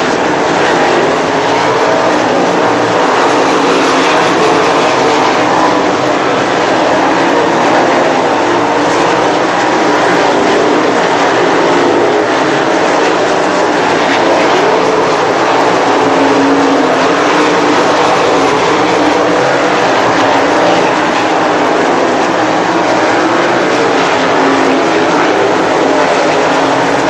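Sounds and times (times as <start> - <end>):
racing car engines droning: 0.0 - 27.0.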